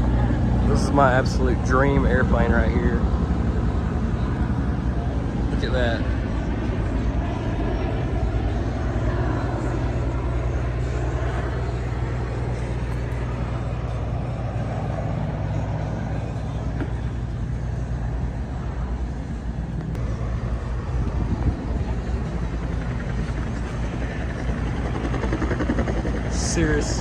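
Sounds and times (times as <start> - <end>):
engine running with low drone: 0.0 - 27.0.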